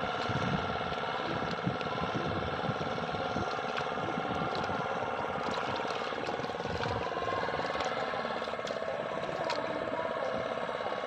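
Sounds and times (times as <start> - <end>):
low rumbling: 0.0 - 11.0
motorboat engine humming: 0.0 - 11.0.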